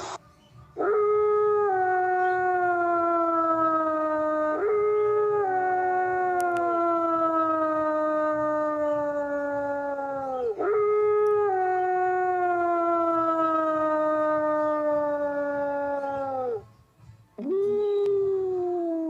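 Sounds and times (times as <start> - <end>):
wolf howling: 0.8 - 16.7.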